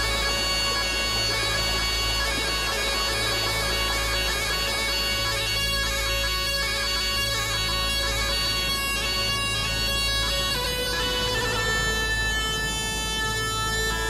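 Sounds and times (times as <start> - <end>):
bagpipe playing folk melody: 0.0 - 14.0.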